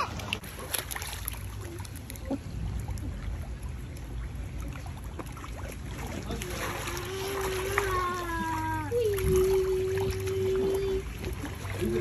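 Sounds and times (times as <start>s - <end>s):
pool water moving gently: 0.0s - 12.0s
water drips and splashes: 0.0s - 12.0s.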